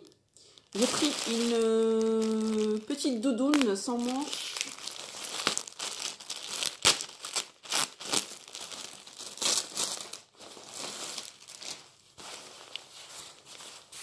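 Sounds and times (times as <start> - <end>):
crinkling and rustling wrapping: 0.0 - 14.0.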